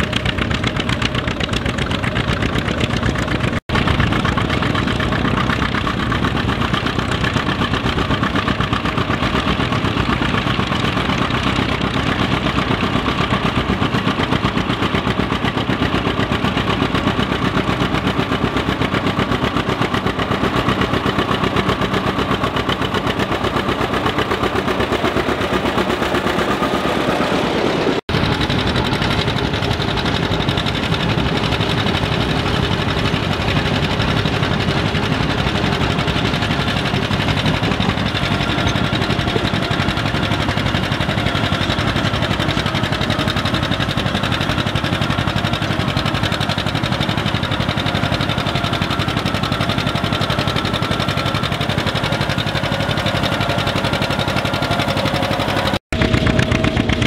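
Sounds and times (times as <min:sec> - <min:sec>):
tractor engine exhaust popping: 0:00.0 - 0:57.0.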